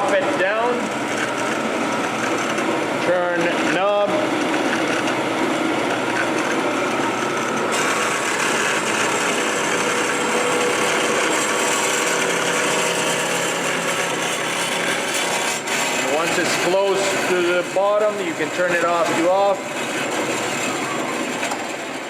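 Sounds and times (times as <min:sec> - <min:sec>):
band saw running: 0:00.0 - 0:22.0.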